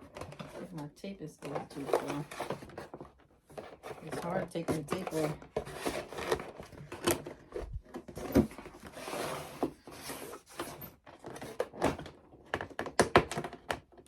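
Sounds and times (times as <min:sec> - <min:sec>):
tape backing rustling and scraping: 0:00.0 - 0:14.0.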